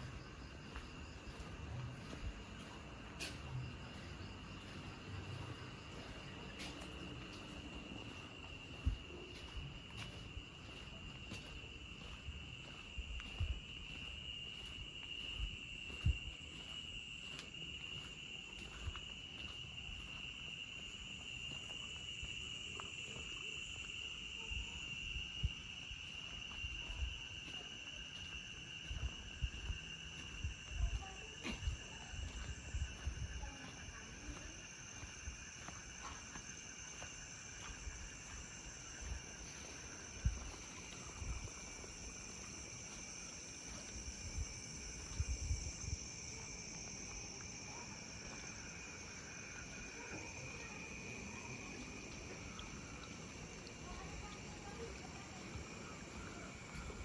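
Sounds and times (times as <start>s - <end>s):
crickets trilling: 0.0s - 57.0s
high-pitched insect drone: 0.0s - 57.0s.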